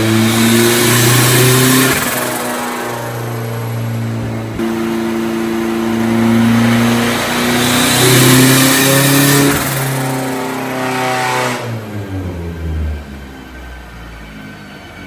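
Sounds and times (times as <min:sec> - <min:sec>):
turbocharged engine under load: 0:00.0 - 0:15.0.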